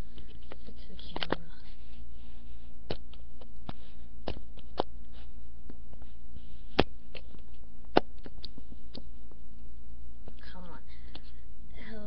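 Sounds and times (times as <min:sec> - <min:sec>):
microphone hum and hiss: 0:00.0 - 0:12.0.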